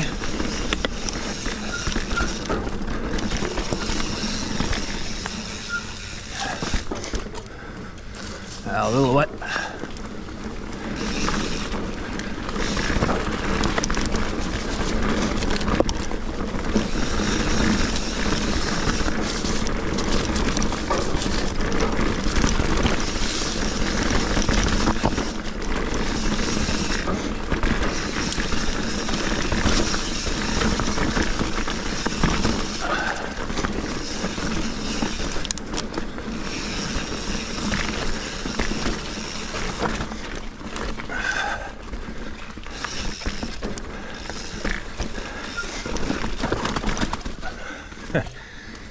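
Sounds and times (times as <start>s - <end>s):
bike rattles and clicks: 0.0s - 48.9s
bike tyres rolling over mud: 0.0s - 48.9s.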